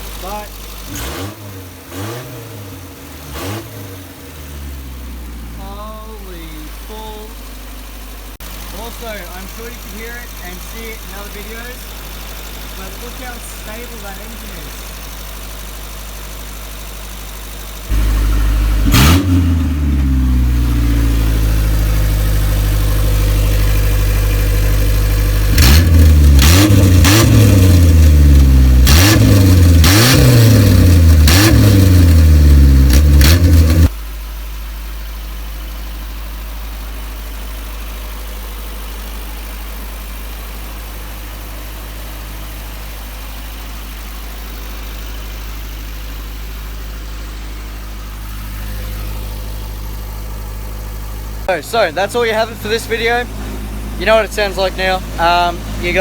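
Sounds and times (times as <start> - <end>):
petrol engine revving and idling: 0.0 - 56.0.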